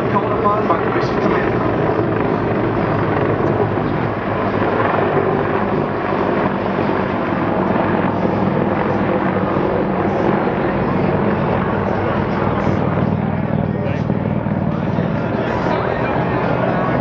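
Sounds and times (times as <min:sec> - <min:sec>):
aircraft drone: 0:00.0 - 0:17.0.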